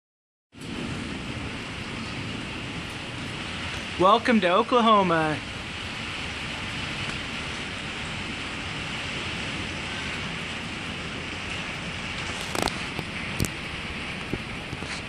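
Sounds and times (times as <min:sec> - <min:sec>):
rain on metal covers: 0:00.5 - 0:15.0.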